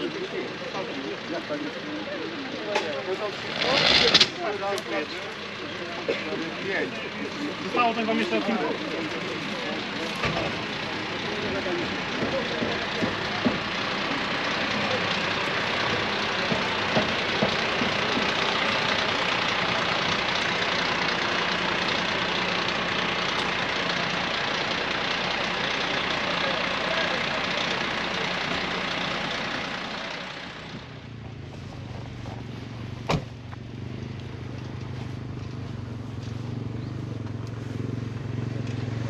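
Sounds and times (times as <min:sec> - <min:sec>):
fire truck engine rushing: 0:00.0 - 0:39.0
utility vehicle engine hum: 0:00.0 - 0:39.0.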